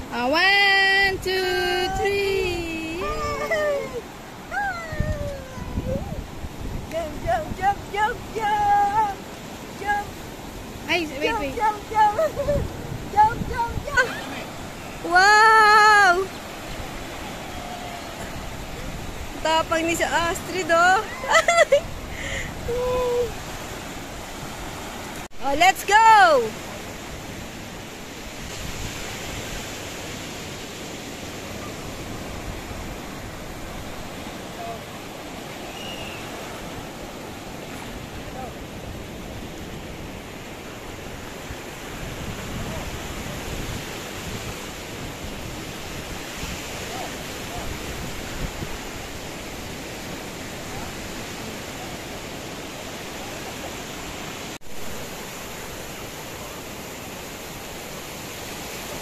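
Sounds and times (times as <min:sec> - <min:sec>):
sea surf breaking on shore: 0:00.0 - 0:59.0.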